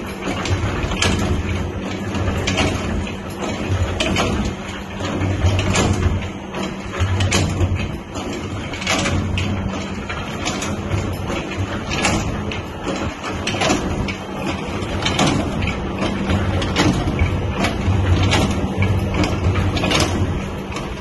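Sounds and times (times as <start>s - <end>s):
mixing machine motor hum: 0.0s - 21.0s.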